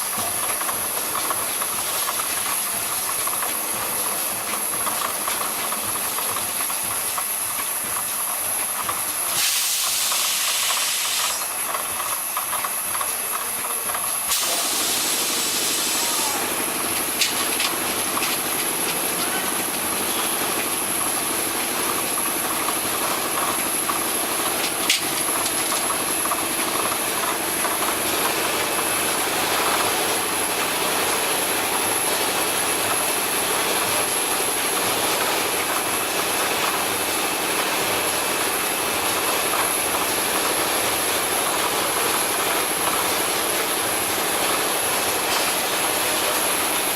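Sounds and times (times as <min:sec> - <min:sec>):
washing machine running: 0:00.0 - 0:46.9.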